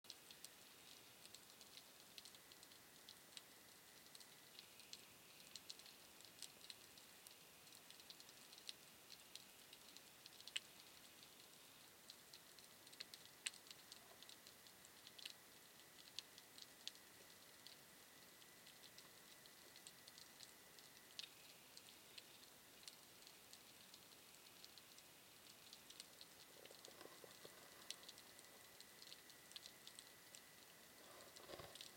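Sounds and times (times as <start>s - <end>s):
low hiss: 0.1s - 31.9s
underwater clicking and crackling: 0.1s - 31.9s.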